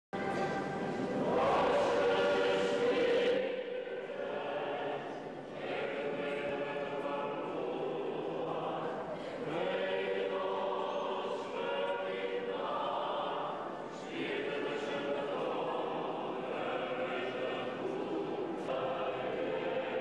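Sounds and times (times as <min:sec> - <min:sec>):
choir singing chant: 0:00.2 - 0:20.0.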